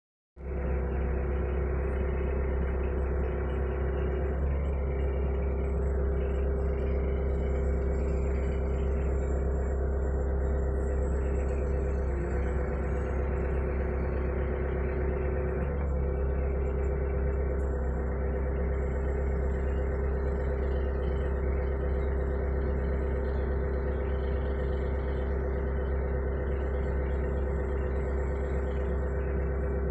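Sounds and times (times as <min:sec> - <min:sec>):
diesel engine rumble: 0:00.4 - 0:29.9
hydraulic whine: 0:00.5 - 0:29.9.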